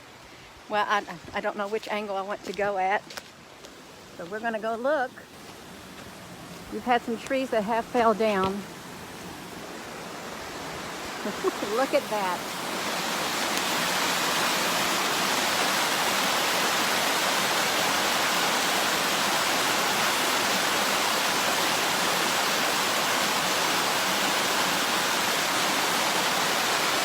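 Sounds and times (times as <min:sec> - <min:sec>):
waterfall pouring and splashing: 0:00.1 - 0:27.0.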